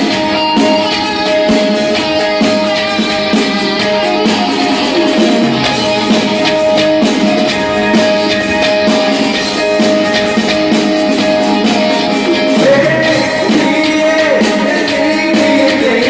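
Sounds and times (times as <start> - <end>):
live band music: 0.0 - 16.0
strummed guitar: 0.0 - 16.0.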